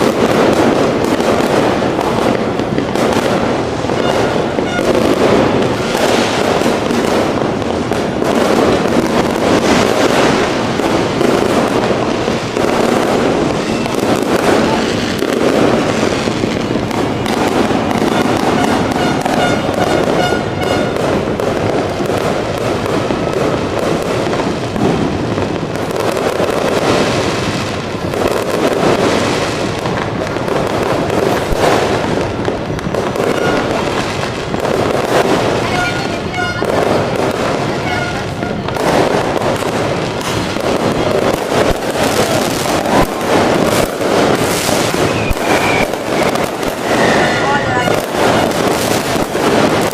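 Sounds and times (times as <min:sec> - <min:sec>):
fireworks and firecrackers crackling: 0:00.0 - 0:49.9.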